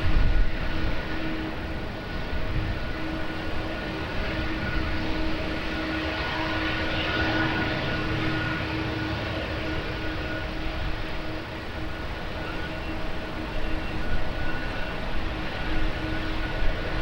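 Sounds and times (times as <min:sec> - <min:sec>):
jet engines with whining tones: 0:00.0 - 0:17.0
wind rumbling on microphone: 0:00.0 - 0:17.0.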